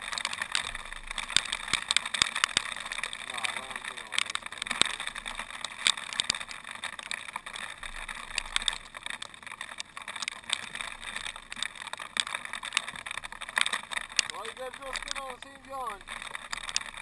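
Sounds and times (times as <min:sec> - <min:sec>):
hail pellets ticking: 0:00.0 - 0:17.0
hiss of precipitation: 0:00.0 - 0:17.0.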